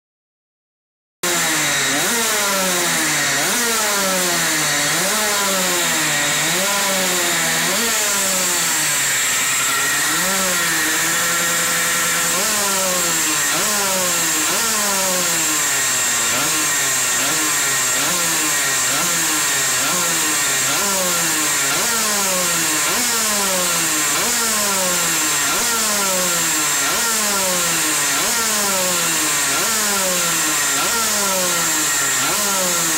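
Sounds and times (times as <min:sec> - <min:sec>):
two-stroke engine revving: 0:01.2 - 0:32.9.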